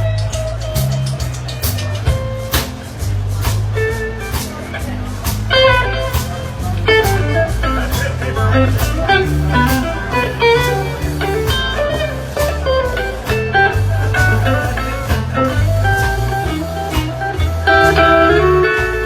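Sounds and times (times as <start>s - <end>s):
bass line: 0.0s - 19.0s
electric guitar lines: 0.0s - 19.0s
steady beat: 0.0s - 19.0s.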